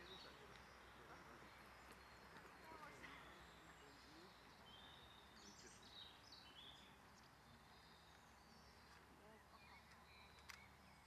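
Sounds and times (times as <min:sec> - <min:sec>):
faint high bird chirps: 0:00.0 - 0:11.0.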